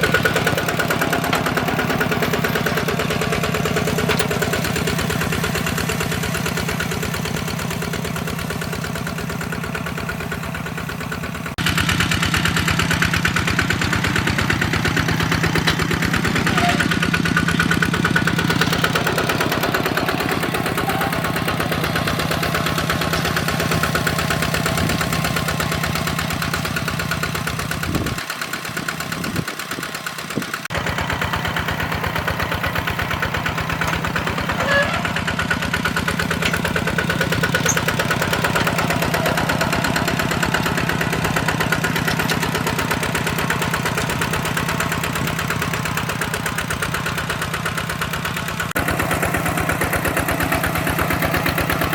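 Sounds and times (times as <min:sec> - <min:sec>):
hand tractor diesel engine: 0:00.0 - 0:51.9.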